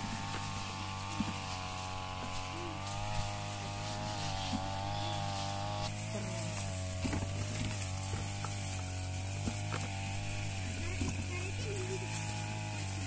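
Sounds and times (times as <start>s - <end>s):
droning hum: 0.0s - 13.0s.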